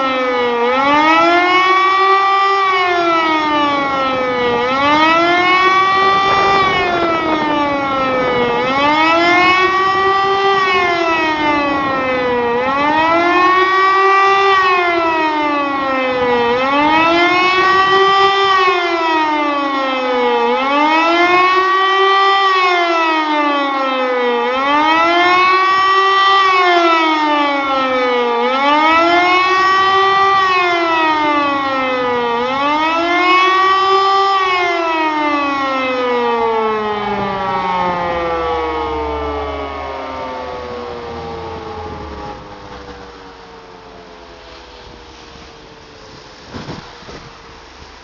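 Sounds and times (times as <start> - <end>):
electric motor siren wailing: 0.0 - 47.8.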